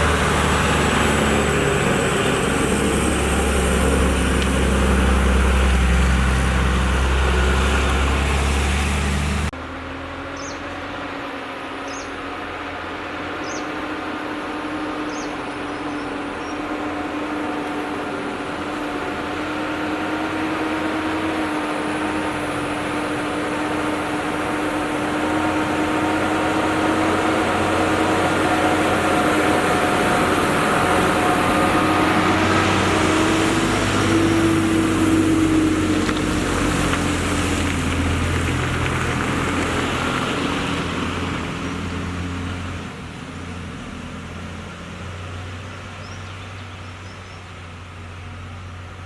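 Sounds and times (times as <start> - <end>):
lorry engine pulling uphill: 0.0 - 49.0.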